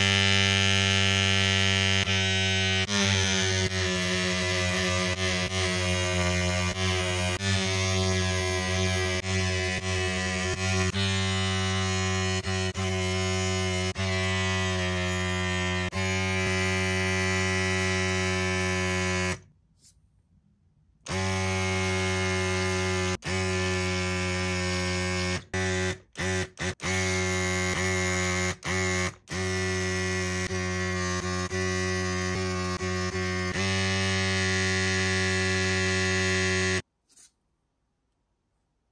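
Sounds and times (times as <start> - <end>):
small electric motor humming: 0.0 - 19.4, 21.1 - 36.8.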